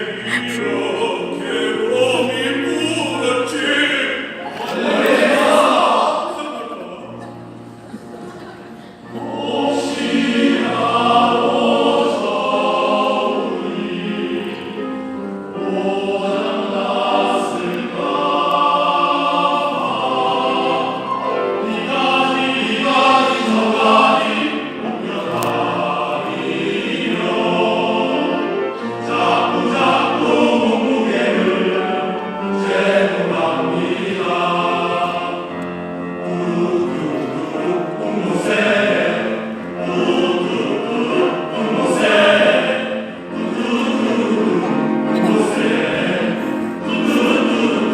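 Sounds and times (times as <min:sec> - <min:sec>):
men's choir singing: 0:00.0 - 0:47.9.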